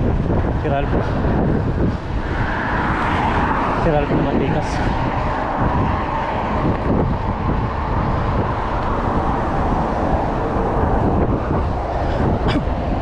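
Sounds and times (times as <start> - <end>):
wind and road noise: 0.0 - 13.0
wind rumble on microphone: 0.0 - 13.0.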